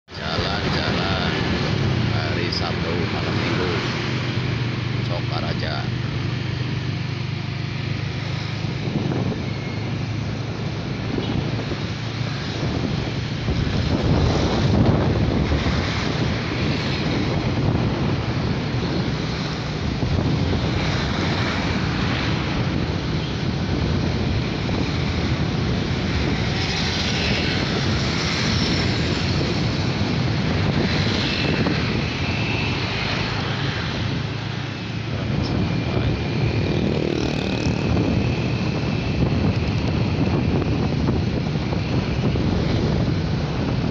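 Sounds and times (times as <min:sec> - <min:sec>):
road noise: 0:00.0 - 0:43.9
vehicle engine drone: 0:00.1 - 0:43.9.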